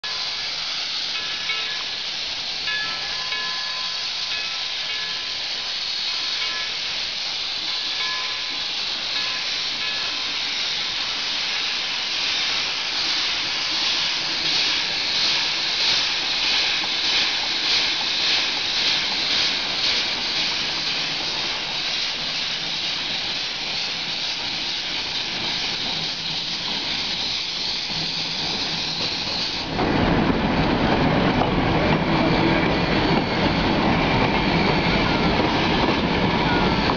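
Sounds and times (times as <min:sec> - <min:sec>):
steam locomotive hissing steam: 0:00.0 - 0:36.9.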